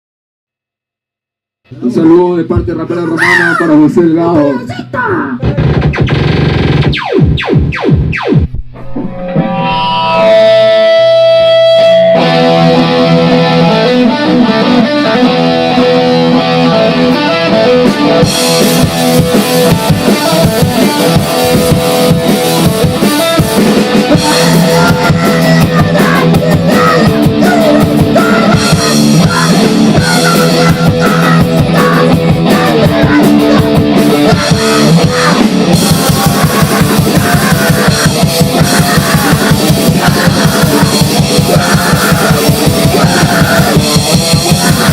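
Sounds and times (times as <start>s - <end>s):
distorted electric guitar: 1.7s - 44.9s
drum kit: 5.0s - 44.9s.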